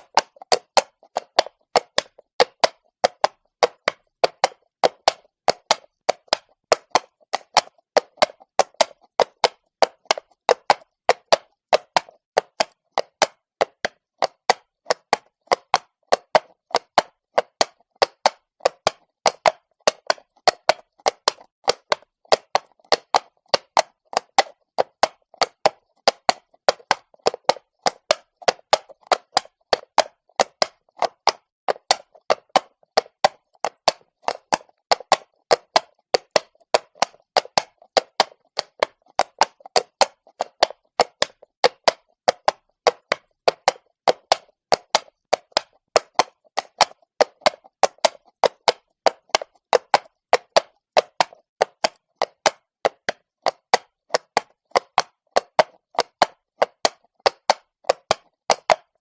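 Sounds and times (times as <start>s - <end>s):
horse hooves on stone: 0.0s - 58.0s.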